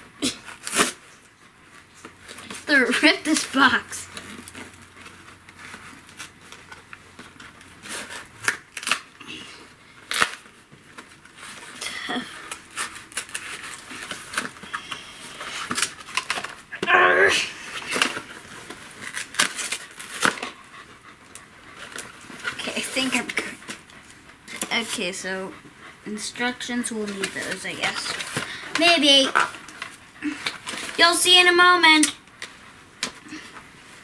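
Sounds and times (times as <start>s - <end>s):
paper rustling and crinkling: 0.3s - 16.7s, 17.6s - 20.6s, 21.7s - 25.0s, 26.4s - 34.0s.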